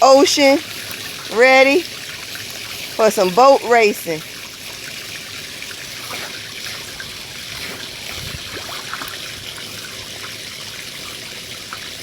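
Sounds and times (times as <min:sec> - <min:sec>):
small water splashes: 0:00.0 - 0:12.0
trickle of running water: 0:00.0 - 0:12.0.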